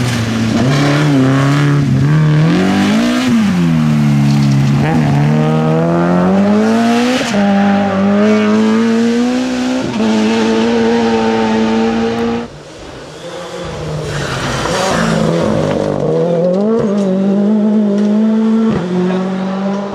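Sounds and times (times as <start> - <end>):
rally car engine accelerating: 0.0 - 19.9.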